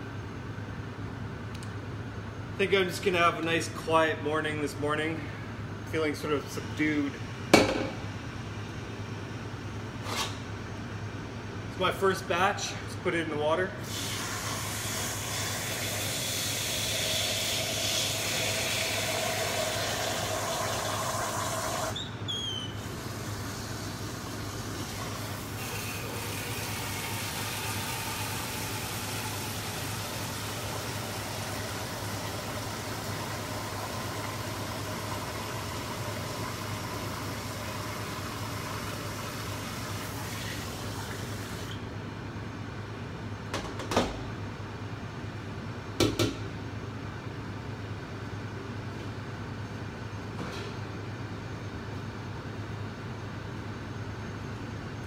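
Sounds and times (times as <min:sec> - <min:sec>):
kitchen equipment hiss and hum: 0:00.0 - 0:55.0.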